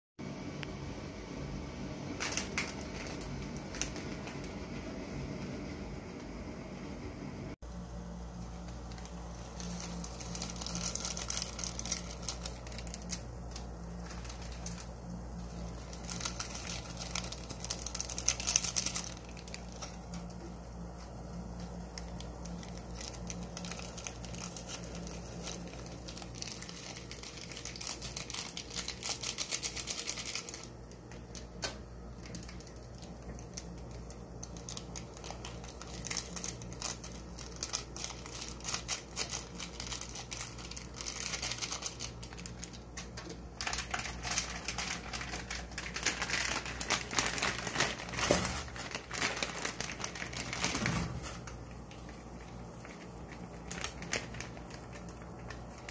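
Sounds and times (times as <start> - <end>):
foil wrapper crinkling: 2.2 - 4.6, 8.4 - 55.9.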